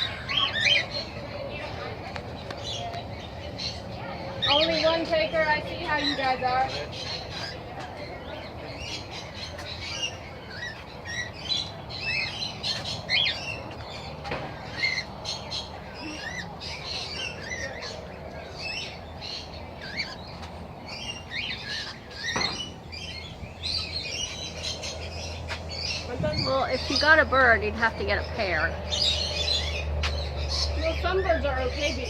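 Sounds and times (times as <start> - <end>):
birds chirping and squawking: 0.0 - 32.0.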